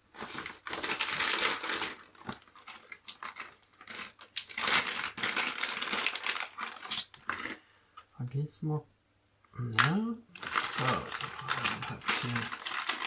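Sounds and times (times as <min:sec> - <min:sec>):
crinkling and rustling: 0:00.0 - 0:08.1, 0:09.7 - 0:13.0.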